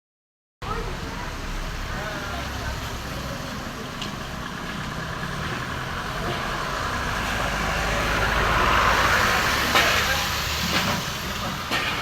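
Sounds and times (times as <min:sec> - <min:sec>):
train running: 0:01.0 - 0:12.0.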